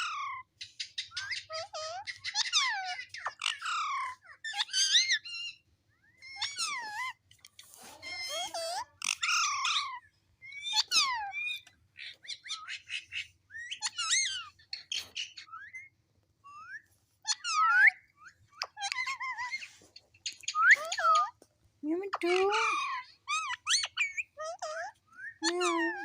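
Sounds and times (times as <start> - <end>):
parrot whistling and chirping: 0.0 - 5.6, 8.1 - 21.3, 22.6 - 26.0.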